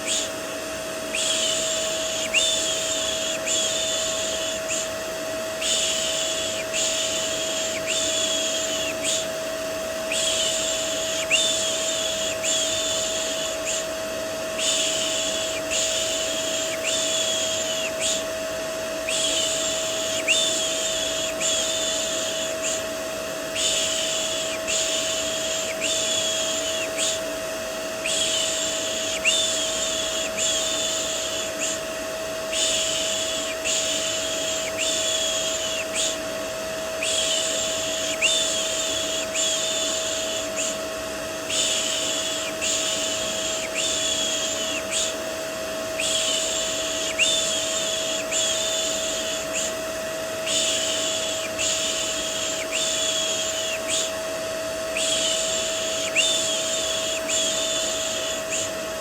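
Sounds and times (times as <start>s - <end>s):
vacuum cleaner white noise: 0.0s - 59.0s.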